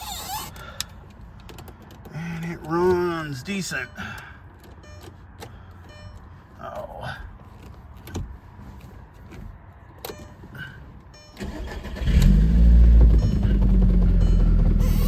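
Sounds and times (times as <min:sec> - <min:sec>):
car engine cranking and idling: 0:00.0 - 0:15.0.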